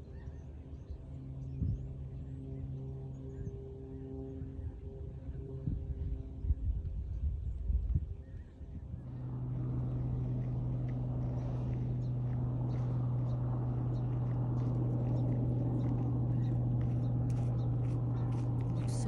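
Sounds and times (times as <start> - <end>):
steady motor hum: 0.0 - 19.0.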